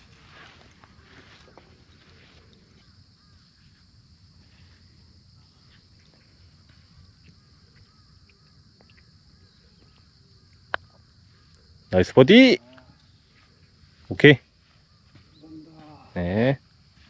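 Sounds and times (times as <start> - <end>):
faint chirps: 0.0 - 17.0.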